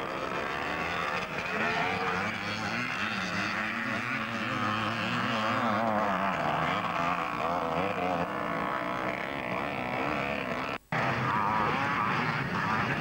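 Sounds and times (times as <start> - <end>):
motocross bikes racing: 0.0 - 13.0.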